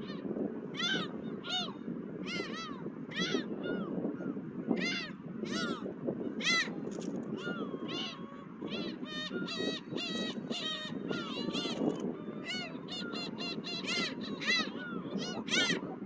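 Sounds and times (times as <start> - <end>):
seagulls calling: 0.0 - 16.0
wind noise: 0.0 - 16.0.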